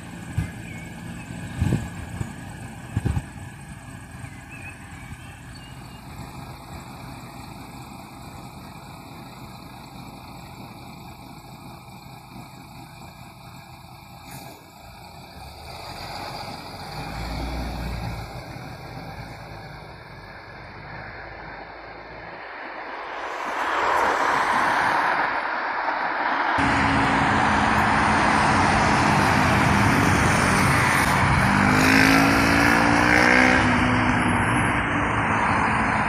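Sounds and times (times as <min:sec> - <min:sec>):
bus engine rumble: 0:00.0 - 0:36.0
passing car engine and tyres: 0:00.0 - 0:36.0.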